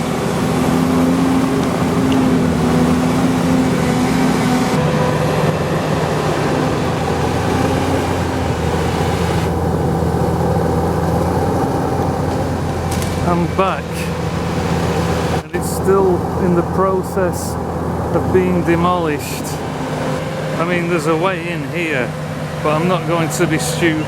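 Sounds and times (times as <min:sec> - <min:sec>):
engine hum: 0:00.0 - 0:24.0.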